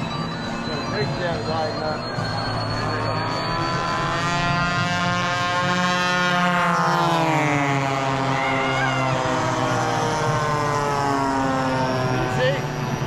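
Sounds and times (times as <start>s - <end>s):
model plane engine flying past: 0.0s - 13.0s
model plane engines running: 0.0s - 13.0s.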